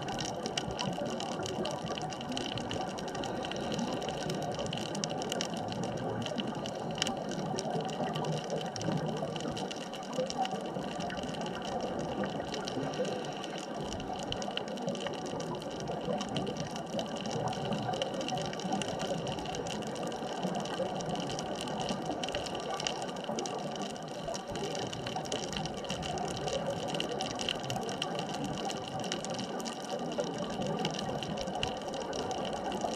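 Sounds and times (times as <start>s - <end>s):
fine continuous crackling: 0.0s - 32.9s
underwater hum with steady tones: 0.0s - 32.9s.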